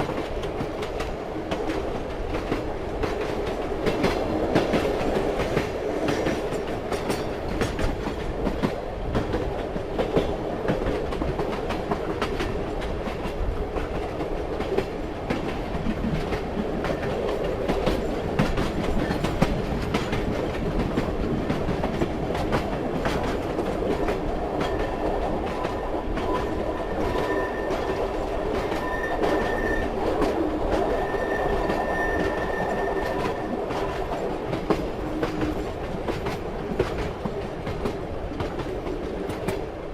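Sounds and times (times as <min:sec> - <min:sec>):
wheels clicking over rail joints: 0:00.0 - 0:39.8
train rumbling on track: 0:00.0 - 0:39.9.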